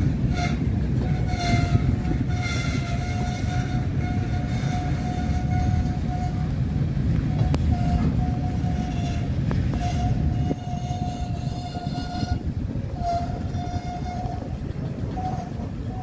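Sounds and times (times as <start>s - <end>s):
freight train rumbling past: 0.0s - 16.0s
wheels clicking over rail joints: 0.0s - 16.0s
wheels squealing: 0.0s - 16.0s.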